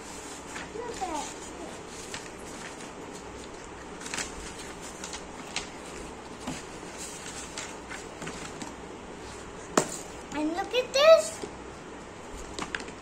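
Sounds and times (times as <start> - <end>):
book pages rustling: 0.0 - 10.4, 12.3 - 13.0
room noise: 0.0 - 13.0.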